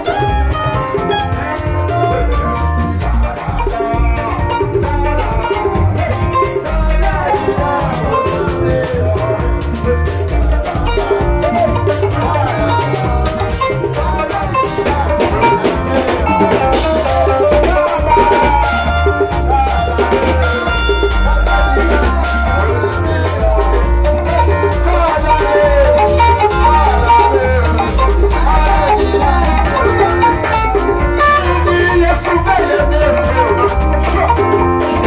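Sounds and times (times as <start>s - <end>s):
bass guitar: 0.0s - 35.0s
drum kit: 0.0s - 35.0s
electric keyboard: 0.0s - 35.0s
hand drum: 0.0s - 35.0s.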